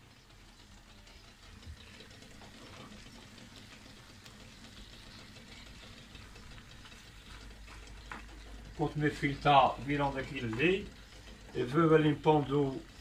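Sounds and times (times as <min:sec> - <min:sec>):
faint frying sizzle: 0:00.0 - 0:13.0
wooden spoon stirring in frying pan: 0:00.0 - 0:13.0.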